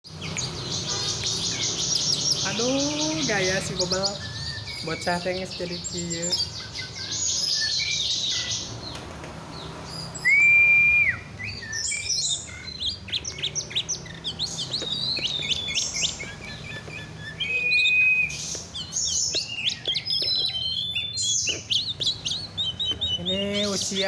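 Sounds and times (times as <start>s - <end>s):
bird singing chirps and trills: 0.0s - 24.0s.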